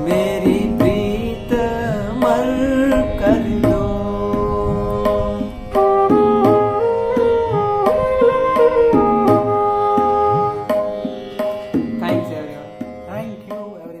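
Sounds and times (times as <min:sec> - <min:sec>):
sustained melody notes: 0:00.0 - 0:14.0
tabla strokes: 0:00.0 - 0:14.0.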